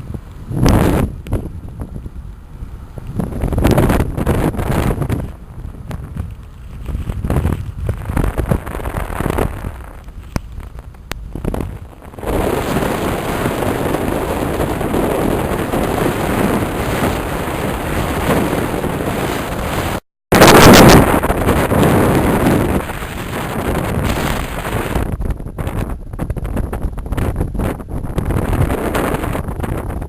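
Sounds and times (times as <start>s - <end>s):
motorcycle engine and road rumble: 0.0s - 30.0s
rushing hiss of wind and rain: 0.0s - 30.0s
wind buffeting microphone: 0.0s - 30.0s.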